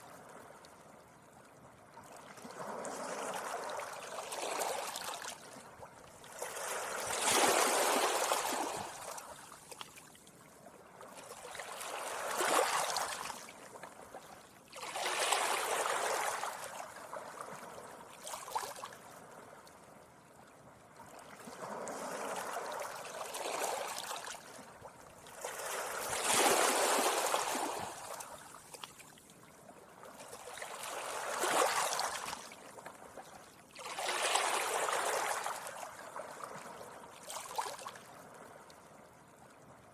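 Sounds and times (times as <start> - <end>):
gentle sea waves washing: 0.0 - 39.9.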